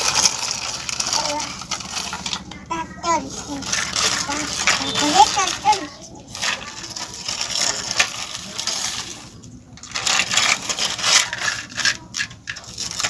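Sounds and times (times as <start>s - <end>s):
loose stones clattering and crunching: 0.0s - 13.0s.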